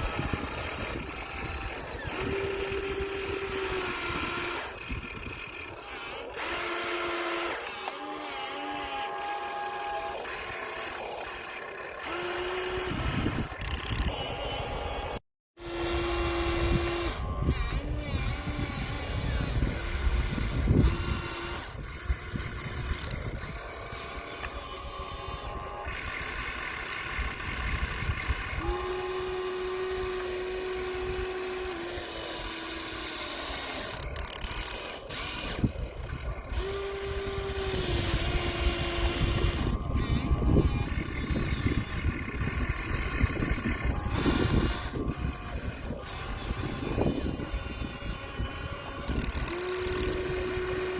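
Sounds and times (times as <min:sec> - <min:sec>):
small electric motors whining: 0:00.0 - 0:50.9.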